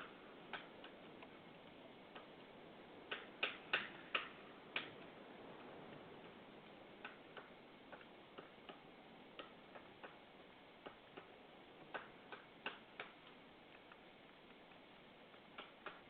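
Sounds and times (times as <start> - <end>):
soft background hiss: 0.0 - 16.0.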